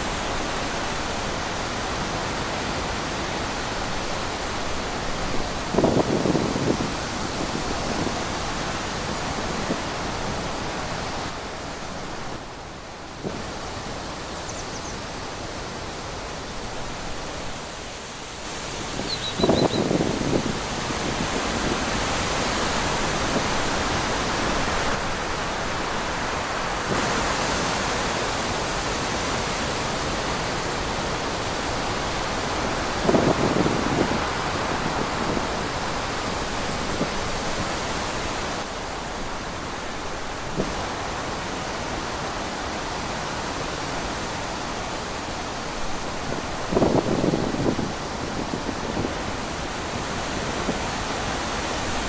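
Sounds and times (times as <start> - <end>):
wind blowing: 0.0 - 52.0.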